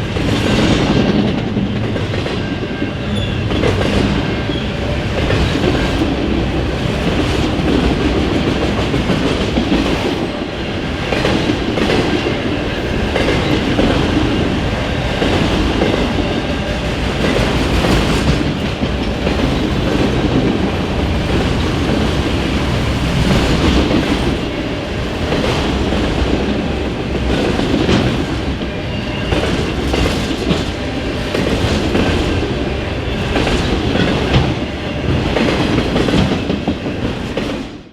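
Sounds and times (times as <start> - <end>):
clickety-clack over rail joints: 0.0 - 37.9
freight train wheels rumbling: 0.0 - 37.9.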